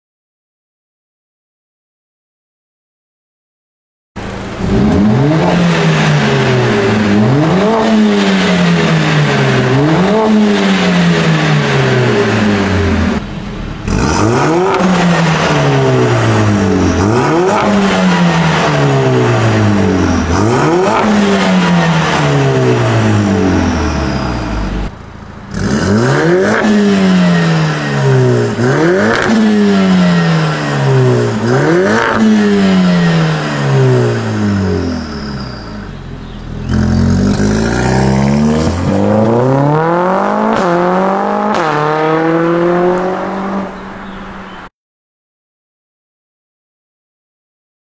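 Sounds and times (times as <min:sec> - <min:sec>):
car engine revving: 0:04.2 - 0:44.7.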